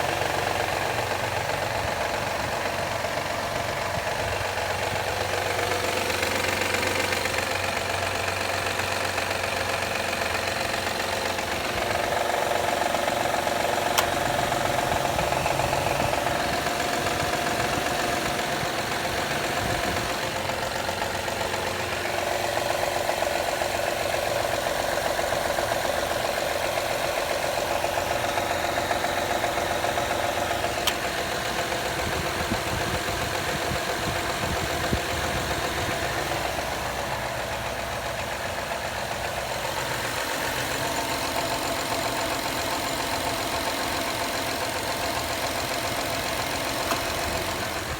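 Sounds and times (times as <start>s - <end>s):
car engine running: 0.0s - 47.9s
loud clapping noise from engine: 0.3s - 47.9s.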